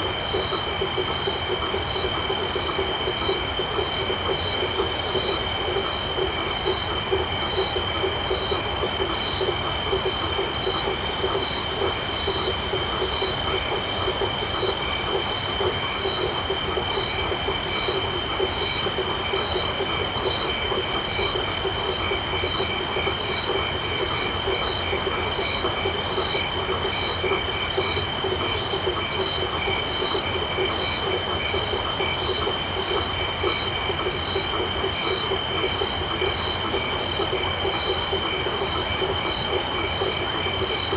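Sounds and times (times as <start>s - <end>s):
crickets trilling: 0.0s - 40.9s
frogs calling: 0.0s - 40.9s.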